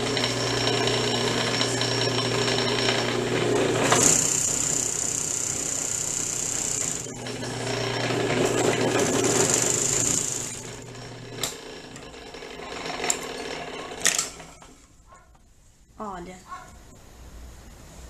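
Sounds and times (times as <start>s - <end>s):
motor hum: 0.0s - 14.6s
overlock sewing machine stitching: 0.0s - 14.8s.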